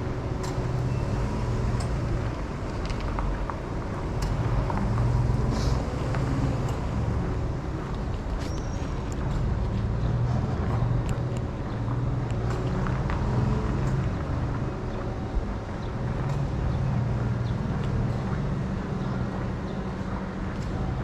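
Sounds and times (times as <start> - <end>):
low rumble of road traffic: 0.0 - 21.0.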